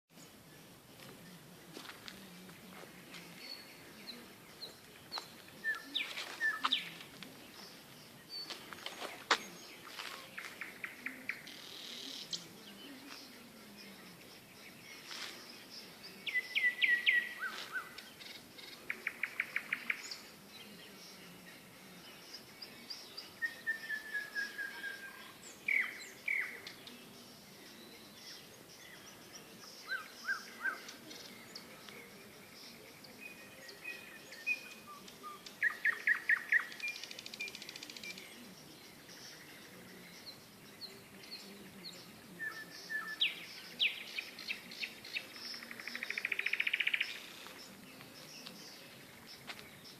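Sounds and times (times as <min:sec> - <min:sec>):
nightingale singing: 0:00.1 - 0:49.9.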